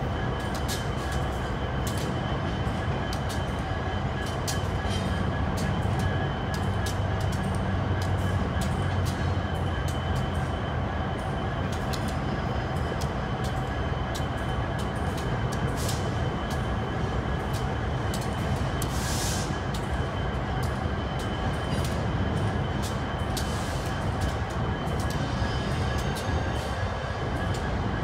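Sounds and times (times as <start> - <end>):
freight train rumbling: 0.0 - 28.0.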